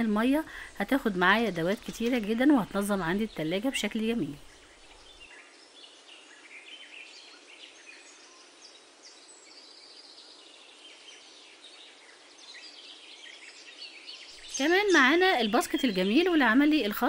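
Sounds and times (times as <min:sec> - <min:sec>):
faint birds chirping: 0:00.0 - 0:17.0
steady background hiss: 0:00.0 - 0:17.0.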